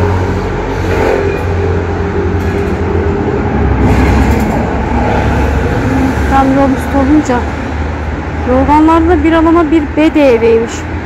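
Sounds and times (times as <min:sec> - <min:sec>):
motor vehicle rumble: 0:00.0 - 0:11.0.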